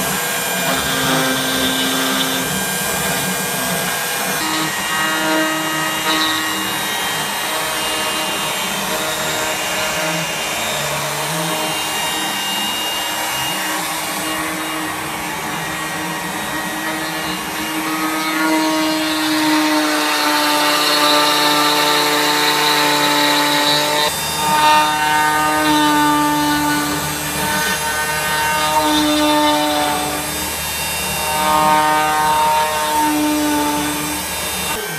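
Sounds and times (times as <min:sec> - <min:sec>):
cnc router spindle whining: 0:00.0 - 0:34.9.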